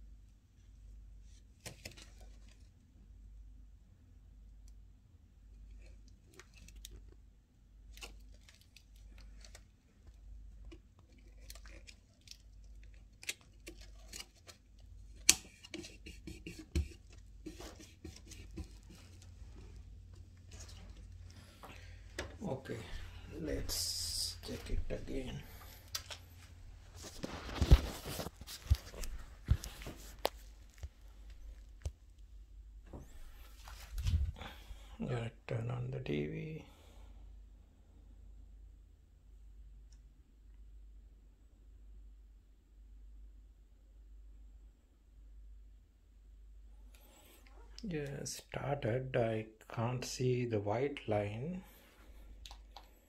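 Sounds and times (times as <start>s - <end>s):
faint low hum: 0.0s - 53.0s.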